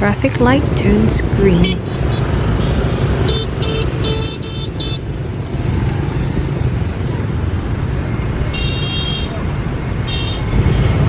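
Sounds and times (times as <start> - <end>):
scooter horns honking: 0.0 - 11.0
traffic rumble: 0.0 - 11.0.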